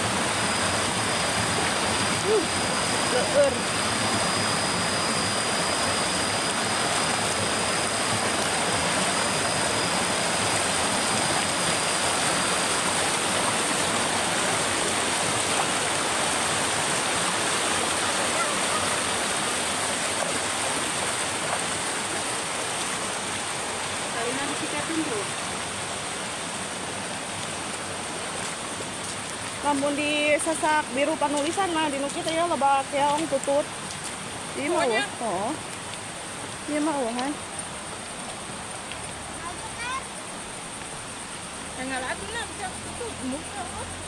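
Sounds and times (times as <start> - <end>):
stream flowing over rocks: 0.0 - 44.0.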